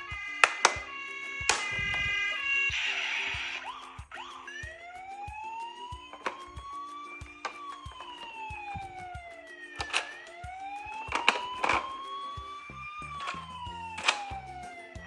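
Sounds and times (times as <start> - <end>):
toy cars clicking and clacking: 0.0 - 3.0, 5.3 - 15.0
looping toy tune: 0.0 - 15.0
toy siren wailing: 0.0 - 15.0.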